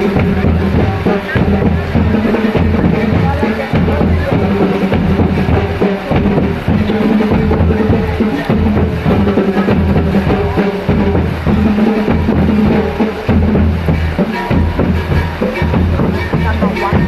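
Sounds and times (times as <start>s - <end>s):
marching band playing: 0.0s - 17.0s
marching drums beating: 0.0s - 17.0s.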